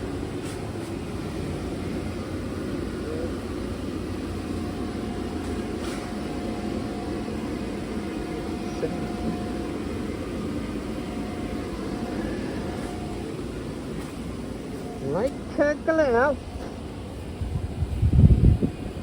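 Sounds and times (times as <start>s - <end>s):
blower and compressor drone: 0.0s - 19.0s.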